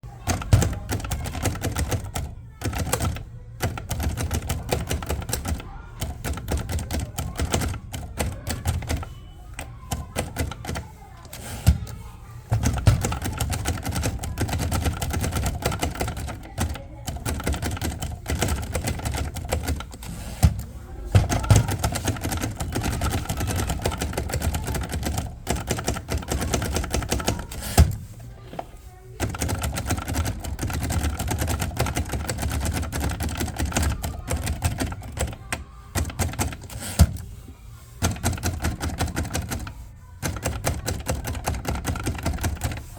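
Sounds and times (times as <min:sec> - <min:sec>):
typewriter keystrokes: 0:00.2 - 0:28.1, 0:29.2 - 0:37.4, 0:38.0 - 0:42.9.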